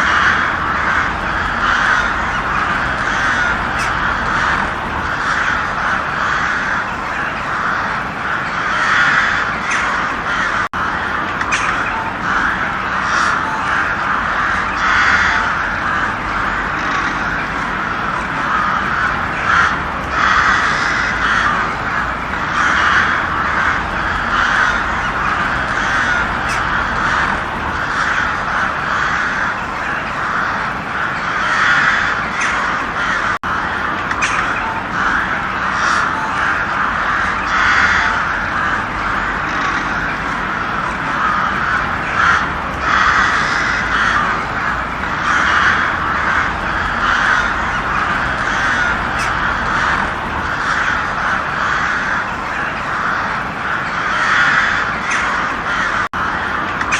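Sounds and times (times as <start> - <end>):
crows cawing: 0.0 - 56.9.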